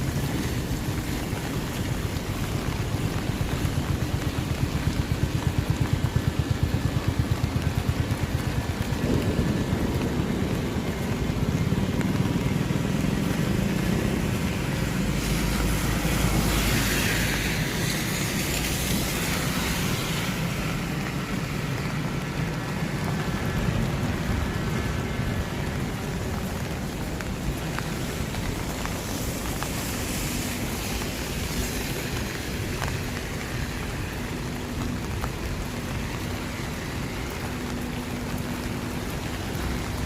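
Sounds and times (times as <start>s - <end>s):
rain: 0.0s - 40.0s
tyres hissing on wet road: 0.0s - 40.0s
vehicle engines running: 0.0s - 40.0s.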